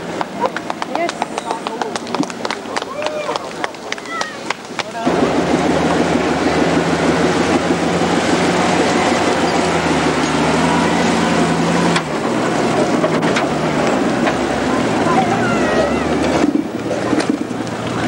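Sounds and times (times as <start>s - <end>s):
off-road car engine running hard: 0.0s - 18.0s.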